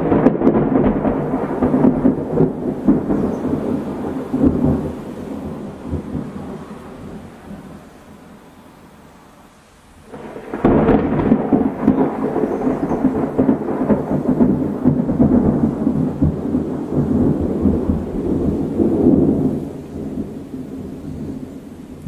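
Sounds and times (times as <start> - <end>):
thunder clap and rumble: 0.0 - 8.2, 10.1 - 22.0.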